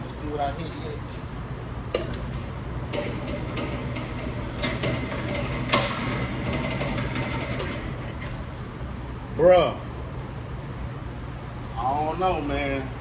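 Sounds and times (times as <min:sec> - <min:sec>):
sharp clacks: 0:00.0 - 0:13.0
target carrier mechanical rattle: 0:00.0 - 0:13.0.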